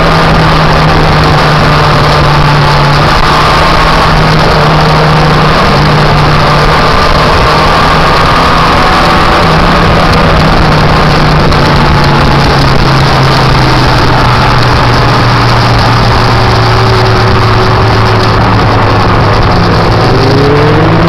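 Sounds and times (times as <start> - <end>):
motorcycle engine drone: 0.0 - 21.0
wind rush on microphone: 0.0 - 21.0.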